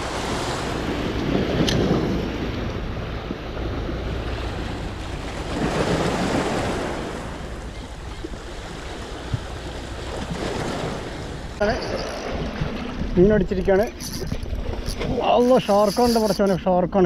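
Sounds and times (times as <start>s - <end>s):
wind buffeting microphone: 0.0s - 16.5s
sea waves washing: 0.0s - 16.7s.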